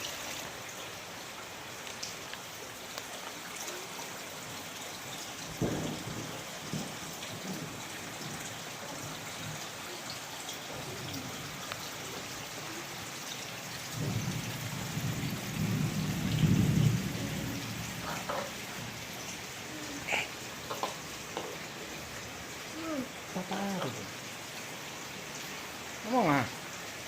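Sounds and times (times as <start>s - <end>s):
water pattering on surfaces: 0.0s - 27.0s.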